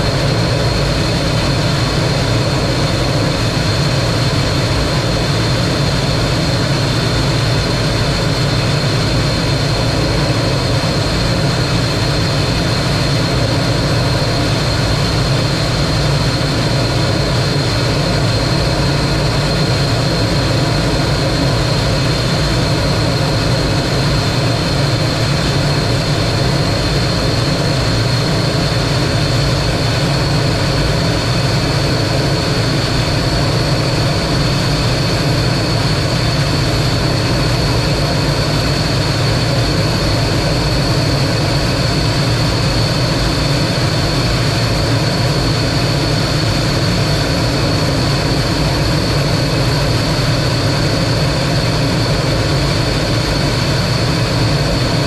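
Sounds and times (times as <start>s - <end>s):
high steady whine: 0.0s - 55.0s
jet engine rumble: 0.0s - 55.0s.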